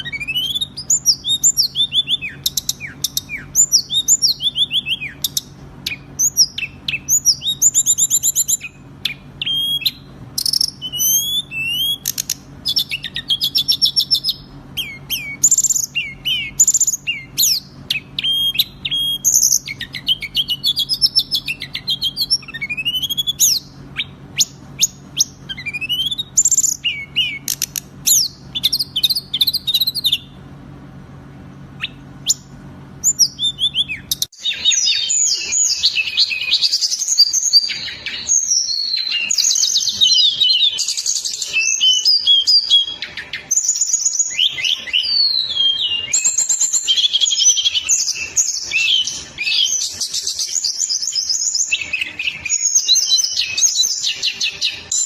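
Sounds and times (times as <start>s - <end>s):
songbird song: 0.0s - 30.5s, 31.2s - 55.0s.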